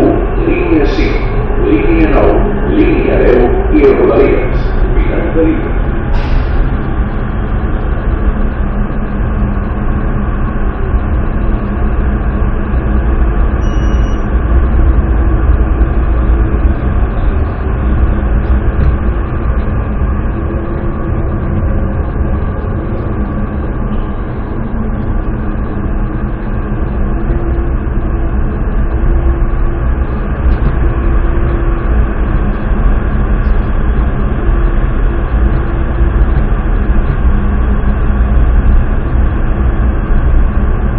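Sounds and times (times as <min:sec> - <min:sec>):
faint steady hum: 0:00.0 - 0:40.9
train wheels rumbling on rails: 0:00.0 - 0:40.9.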